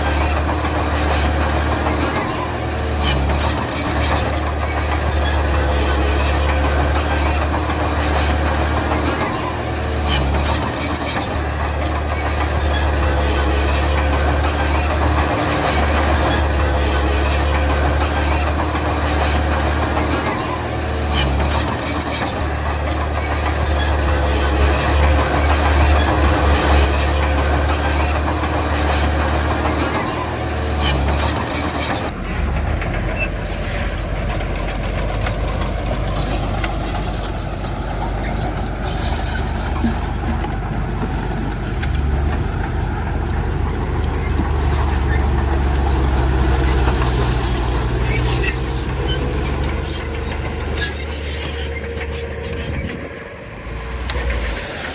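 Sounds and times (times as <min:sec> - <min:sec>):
heavy diesel machinery engine drone: 0:00.0 - 0:54.9.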